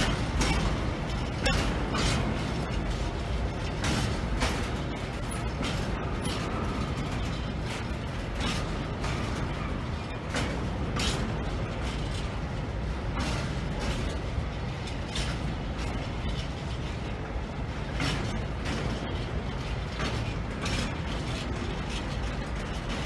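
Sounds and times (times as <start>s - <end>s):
train rumbling: 0.0s - 23.0s
wheels clacking over rail joints: 0.0s - 23.0s.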